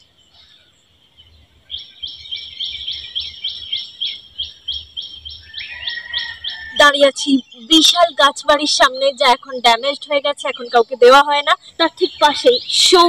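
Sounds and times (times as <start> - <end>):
lower steady bird call: 0.0 - 13.0.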